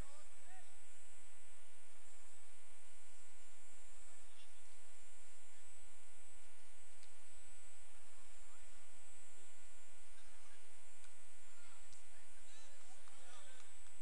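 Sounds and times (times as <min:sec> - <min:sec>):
electrical hum and buzz: 0:00.0 - 0:14.0
faint high whine: 0:00.0 - 0:14.0.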